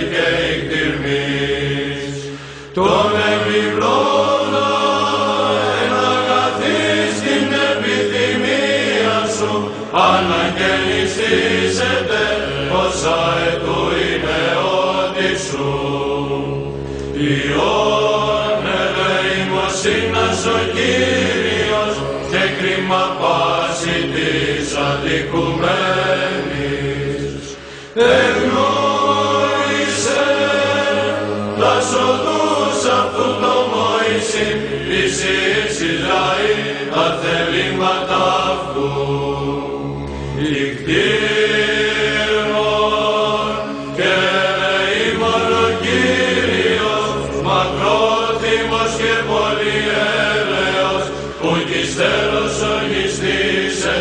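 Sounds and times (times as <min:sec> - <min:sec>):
low sung drone: 0:00.0 - 0:54.0
male choir chanting: 0:00.0 - 0:54.0.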